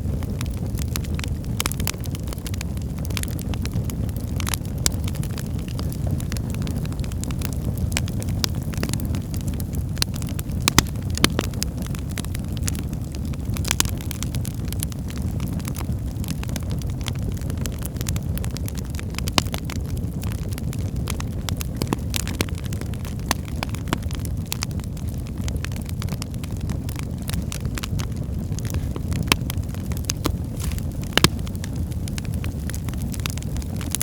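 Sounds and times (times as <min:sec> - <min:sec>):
wood fire roaring and crackling: 0:00.0 - 0:34.0.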